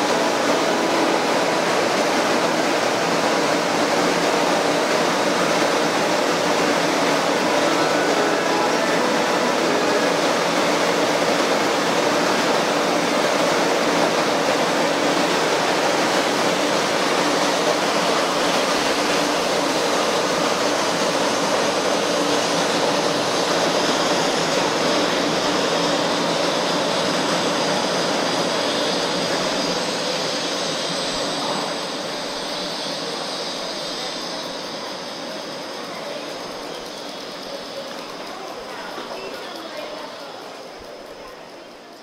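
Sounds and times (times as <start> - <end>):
train running noise: 0.0 - 42.0.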